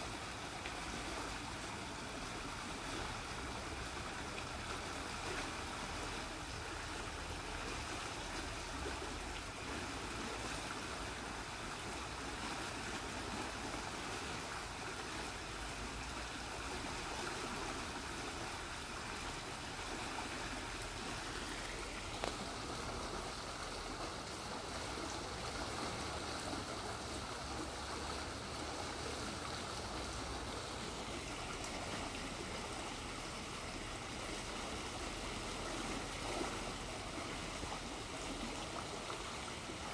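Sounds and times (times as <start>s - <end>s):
stream rushing and bubbling: 0.0s - 39.9s.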